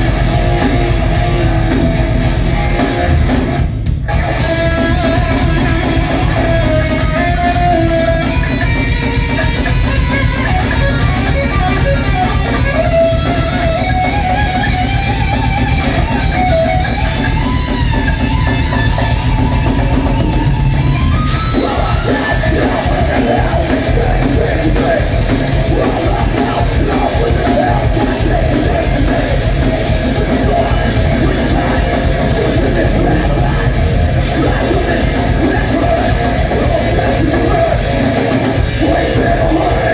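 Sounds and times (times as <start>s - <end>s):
heavy rock band playing: 0.0s - 39.9s.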